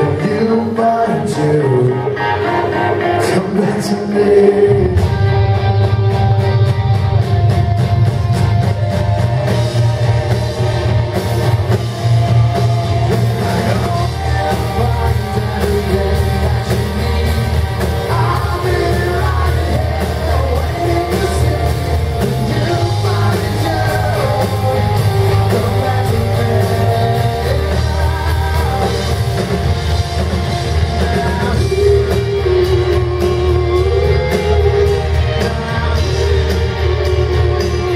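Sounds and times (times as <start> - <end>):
person singing: 0.0 - 5.7, 8.5 - 37.9
live rock band playing: 0.0 - 37.9.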